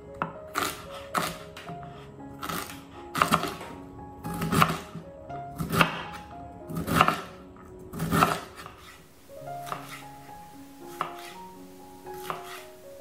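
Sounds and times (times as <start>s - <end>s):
light background music: 0.0s - 13.0s
knife cutting vegetables on board: 0.2s - 5.0s, 5.6s - 9.0s, 9.6s - 10.1s, 10.9s - 13.0s.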